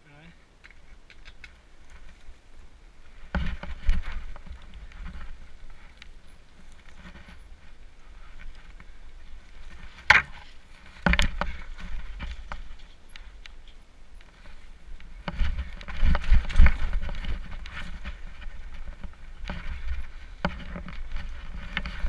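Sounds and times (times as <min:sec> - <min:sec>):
bike frame rattling: 0:00.6 - 0:22.0.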